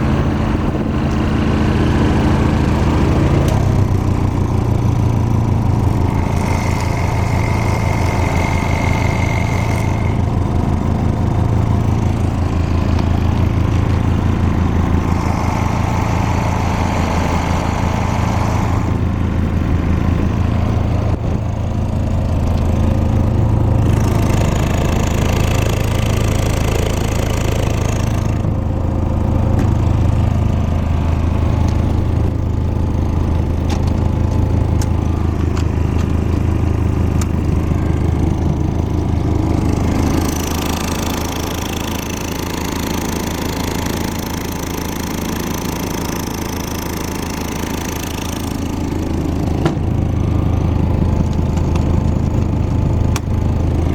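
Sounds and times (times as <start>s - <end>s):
air compressor engine droning: 0.0s - 53.9s.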